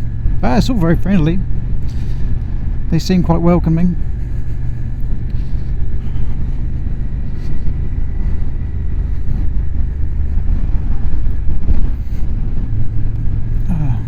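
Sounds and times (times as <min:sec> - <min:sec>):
motorcycle engine drone: 0:00.0 - 0:14.0
road noise: 0:00.0 - 0:14.0.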